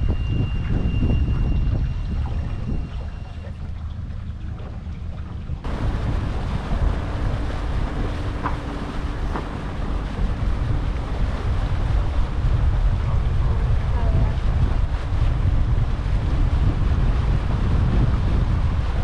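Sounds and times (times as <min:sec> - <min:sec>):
boat engine rumble: 0:00.0 - 0:19.0
wind buffeting microphone: 0:00.0 - 0:19.0.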